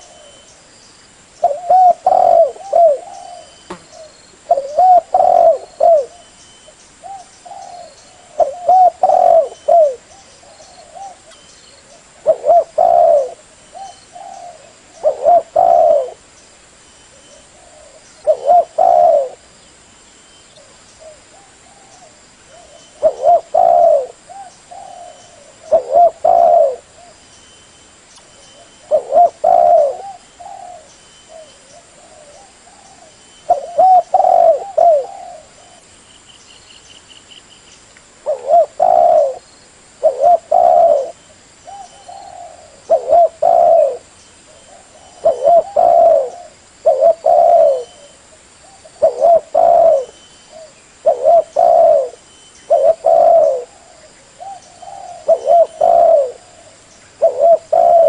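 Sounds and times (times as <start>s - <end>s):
dove cooing: 1.4s - 6.3s, 7.0s - 16.3s, 17.1s - 19.5s, 20.6s - 27.2s, 28.6s - 35.9s, 38.2s - 58.0s.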